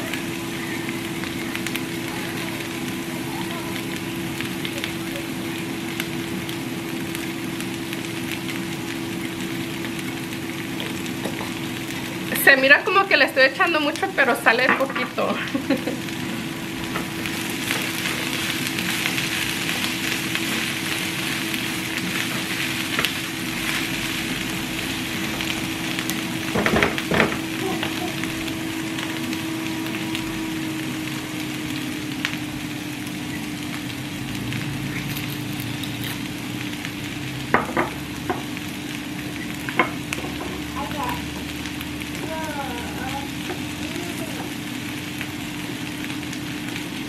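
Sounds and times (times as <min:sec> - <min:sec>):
sprouts sizzling in oil: 0:00.0 - 0:47.0.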